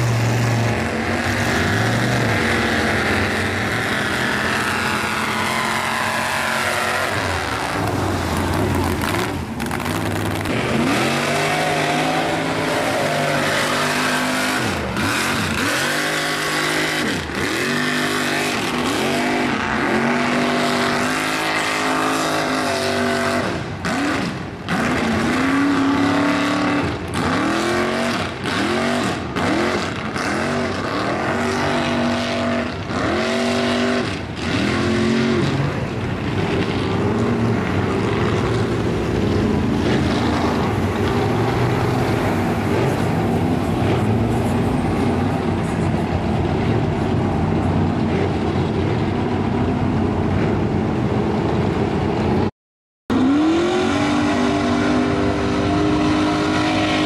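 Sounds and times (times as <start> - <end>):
high-revving truck engine: 0.0 - 52.5, 53.1 - 57.0
truck churning through mud: 0.0 - 52.5, 53.1 - 57.0
truck engine revving: 0.0 - 52.5, 53.1 - 57.0.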